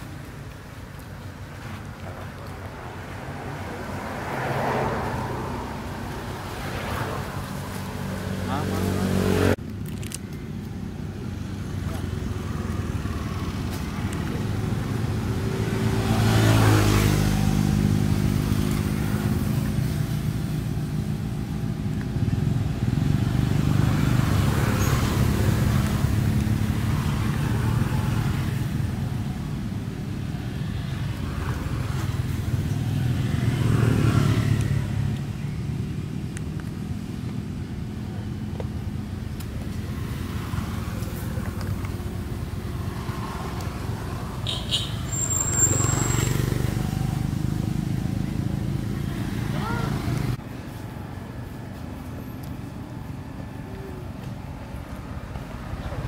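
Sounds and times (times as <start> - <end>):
motor vehicles passing: 0.0 - 56.0.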